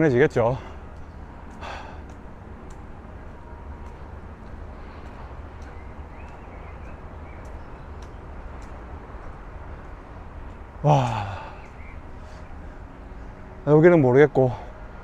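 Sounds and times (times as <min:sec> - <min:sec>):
faint footsteps walking: 0:00.0 - 0:13.5
steady low rumble: 0:00.0 - 0:13.6.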